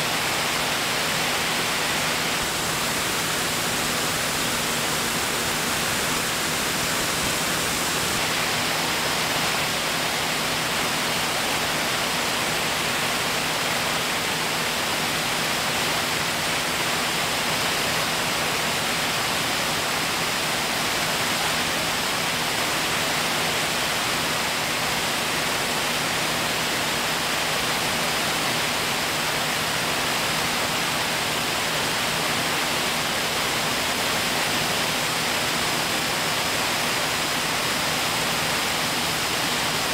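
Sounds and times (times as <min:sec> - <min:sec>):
rushing airflow and engines: 0:00.0 - 0:39.9.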